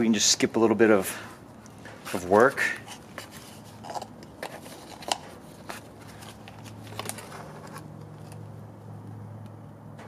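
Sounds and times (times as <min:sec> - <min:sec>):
clicks and knocks of handling: 0:01.6 - 0:10.0.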